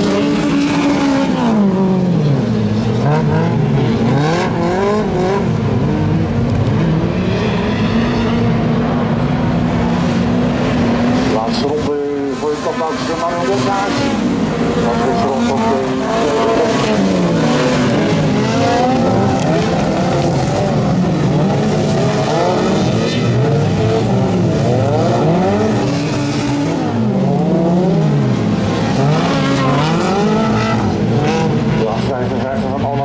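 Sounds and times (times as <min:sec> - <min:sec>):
race car engines revving: 0:00.0 - 0:33.0.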